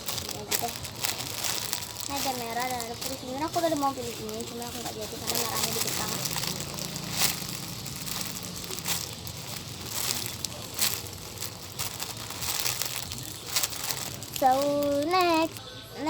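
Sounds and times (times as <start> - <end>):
crinkling and rustling toys: 0.0 - 16.0
short crackles: 0.0 - 16.0.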